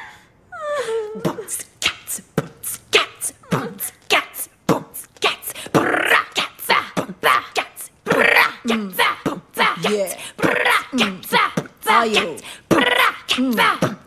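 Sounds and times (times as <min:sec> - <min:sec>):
girls beatboxing: 0:01.0 - 0:14.0.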